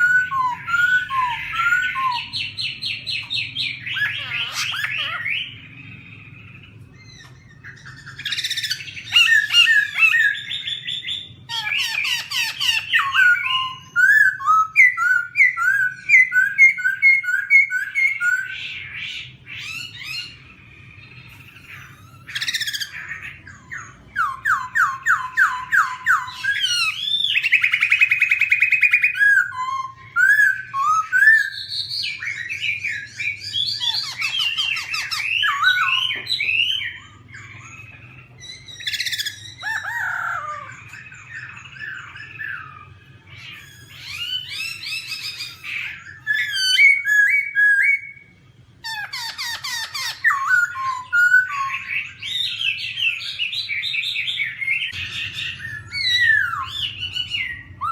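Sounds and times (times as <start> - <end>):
bird singing rapid repeated notes: 0.0 - 57.9.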